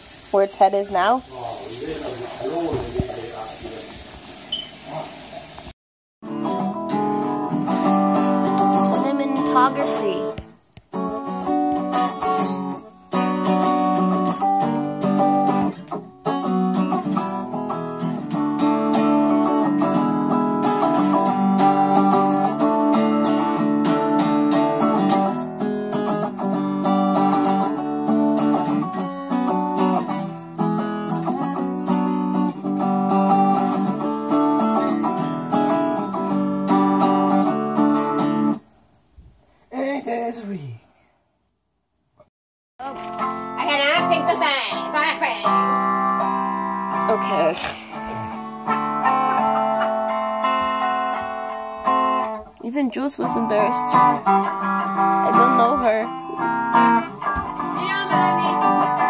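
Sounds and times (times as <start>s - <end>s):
guitar strummed and picked: 6.2s - 38.6s, 42.8s - 59.0s.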